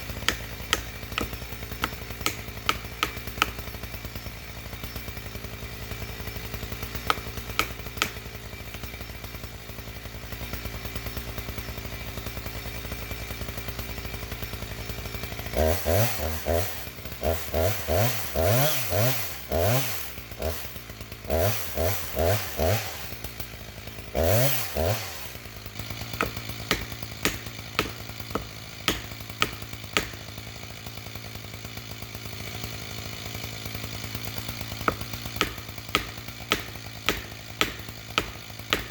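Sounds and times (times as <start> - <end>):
engine idling: 0.0 - 15.6, 22.9 - 38.9
chainsaw revving: 0.0 - 38.9.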